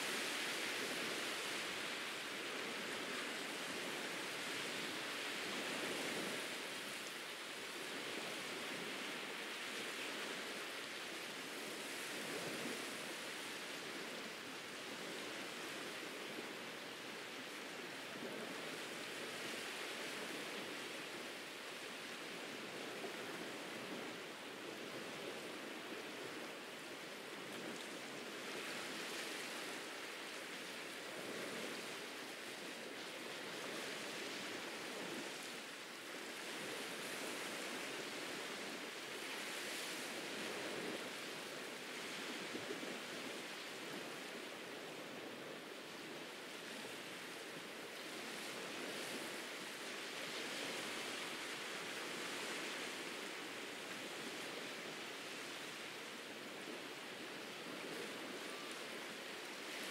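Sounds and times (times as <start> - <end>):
ocean surf on beach: 0.0 - 59.9.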